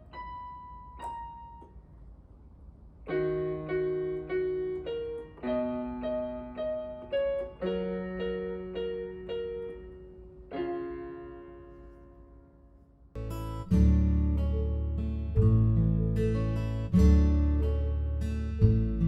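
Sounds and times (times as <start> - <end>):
gentle piano music: 0.0 - 1.8, 3.0 - 19.0.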